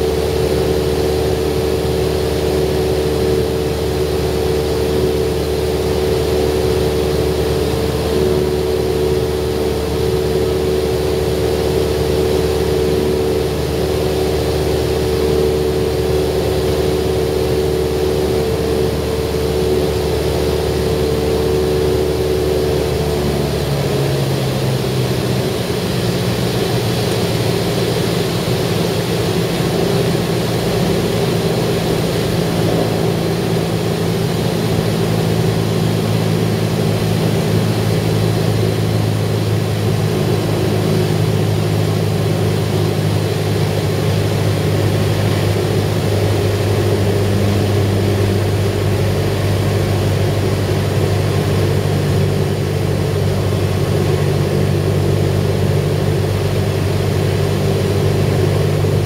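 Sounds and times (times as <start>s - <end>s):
airplane engine and propeller droning: 0.0s - 59.0s.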